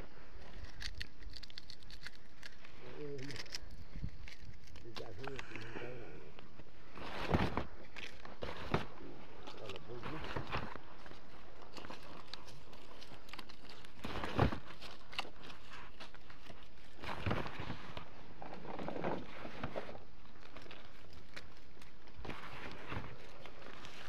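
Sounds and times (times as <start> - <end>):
leaves and branches rustling: 0.0 - 24.0.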